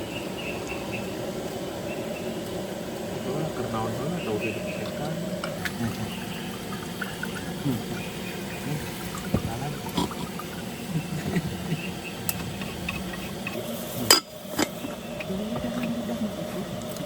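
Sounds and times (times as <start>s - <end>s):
liquid sounds: 0.0s - 17.0s.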